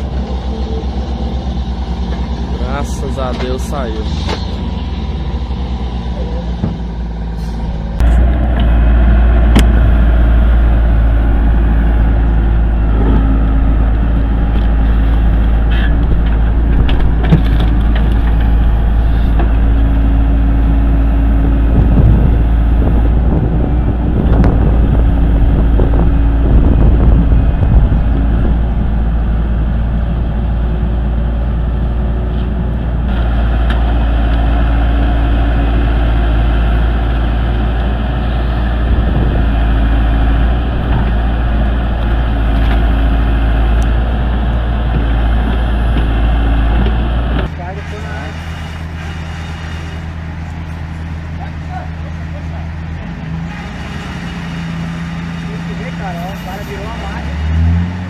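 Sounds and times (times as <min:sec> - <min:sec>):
heavy machinery engines rumbling: 0:00.0 - 0:58.0.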